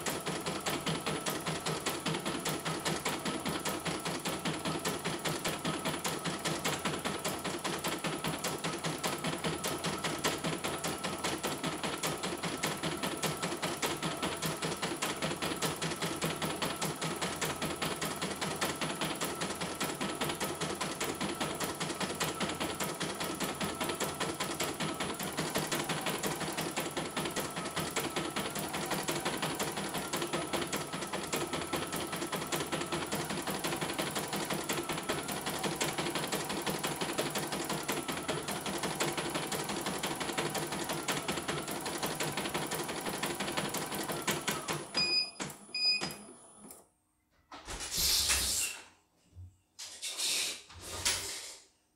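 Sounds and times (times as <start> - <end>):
embroidery machine needle stitching: 0.0 - 46.2.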